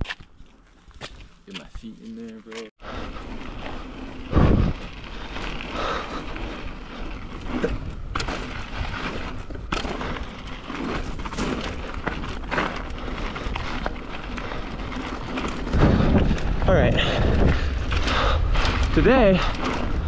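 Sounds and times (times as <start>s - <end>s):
wind buffeting microphone: 3.0s - 20.0s
bike rattling on rock: 3.5s - 20.0s.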